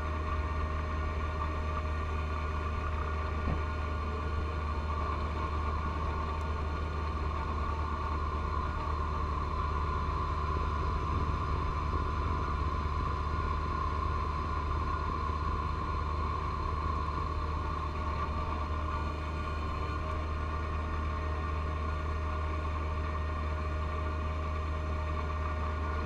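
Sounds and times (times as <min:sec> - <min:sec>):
snow blower high whine: 0:00.0 - 0:26.0
tractor diesel engine running: 0:00.0 - 0:26.0.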